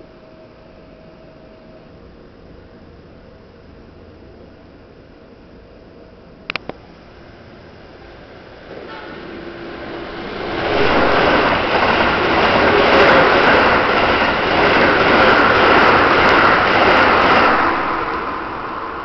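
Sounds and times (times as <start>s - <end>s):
electric train passing at speed: 0.0s - 19.0s.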